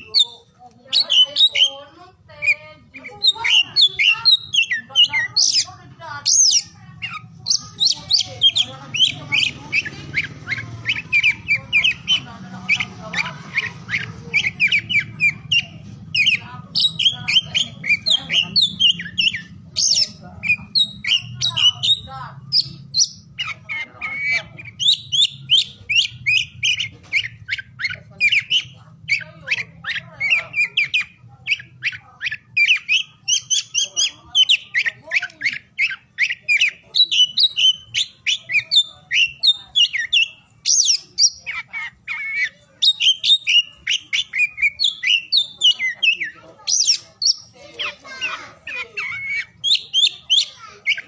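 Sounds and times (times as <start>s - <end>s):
magpie-robin singing: 0.0s - 51.0s.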